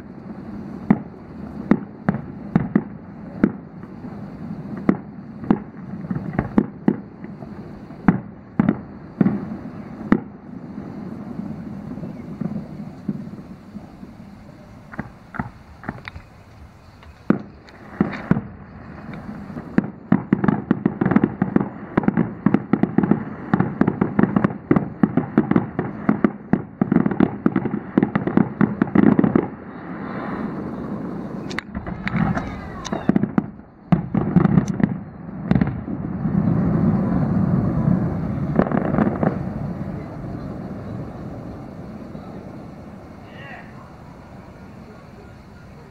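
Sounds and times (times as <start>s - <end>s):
steady rushing noise: 0.0s - 22.5s, 28.8s - 33.8s, 35.7s - 45.9s
fireworks bangs and crackling: 0.0s - 45.9s.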